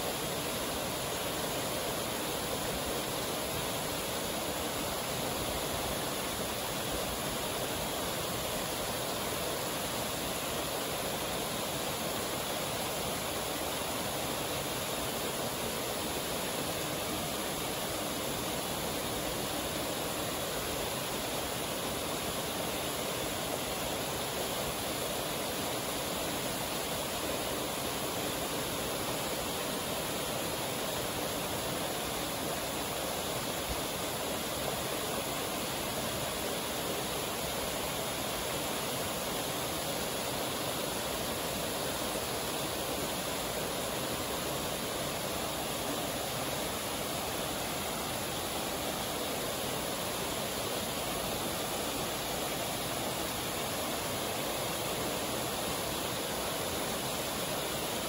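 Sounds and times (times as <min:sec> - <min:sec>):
waterfall roar: 0:00.0 - 0:58.0.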